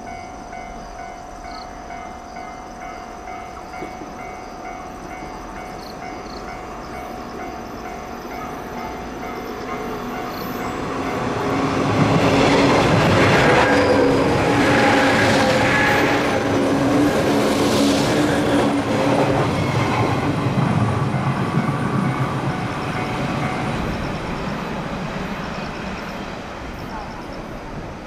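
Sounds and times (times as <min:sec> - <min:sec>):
electric train passing with hum: 0:00.0 - 0:28.0.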